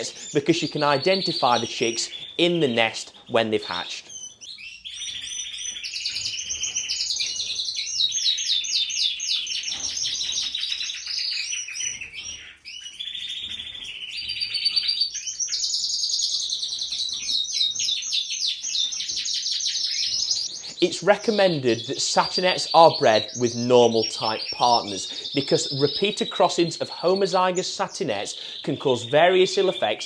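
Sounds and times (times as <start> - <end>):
canaries singing: 0.0 - 30.0.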